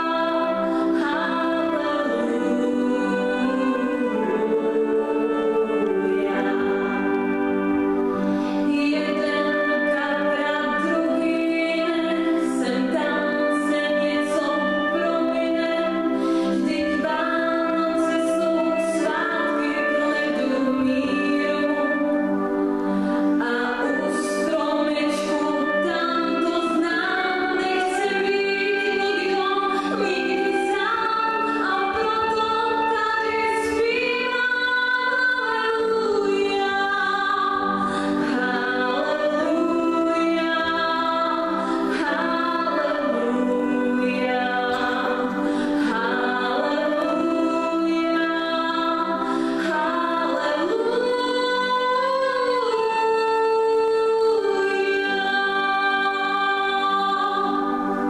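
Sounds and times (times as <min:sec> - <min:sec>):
flute: 0:00.0 - 0:58.0
woman singing slow song: 0:00.0 - 0:58.0.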